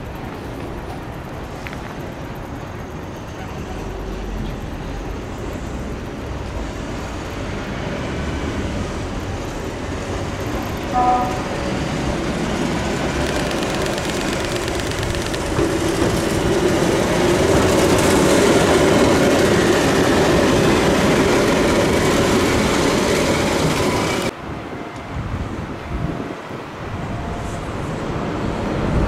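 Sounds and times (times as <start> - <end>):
electric train passing on tracks: 0.0 - 29.0.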